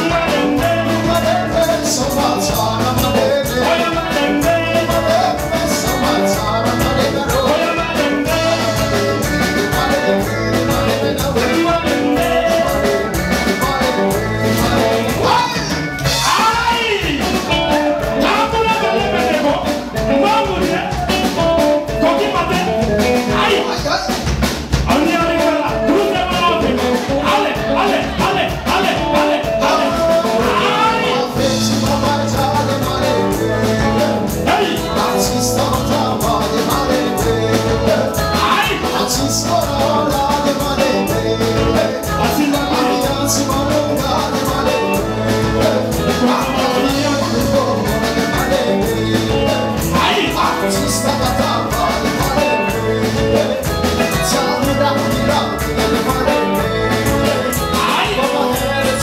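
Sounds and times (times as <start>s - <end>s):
drums: 0.0s - 59.0s
man singing: 0.0s - 59.0s
repeating bass line: 0.0s - 59.0s.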